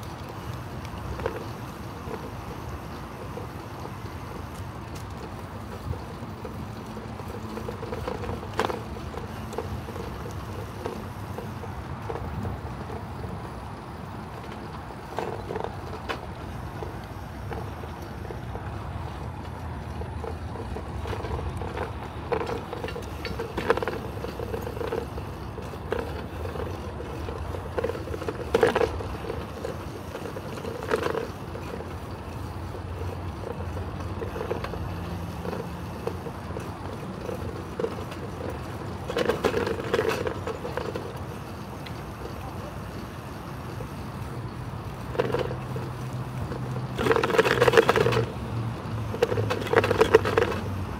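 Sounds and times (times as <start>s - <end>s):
bicycle rattles: 0.0s - 50.9s
tyres rumbling on pavement: 0.0s - 50.9s.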